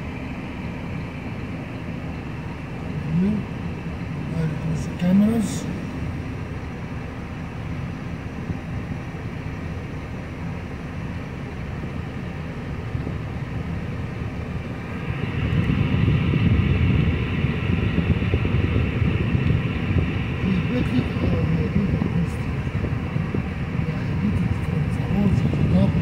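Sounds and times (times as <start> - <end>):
heavy diesel engines rumbling: 0.0 - 26.0.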